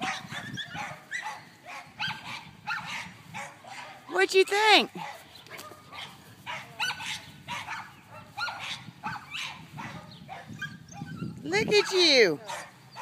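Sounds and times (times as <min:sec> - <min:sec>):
puppy yipping and barking: 0:00.0 - 0:04.0, 0:05.0 - 0:13.0.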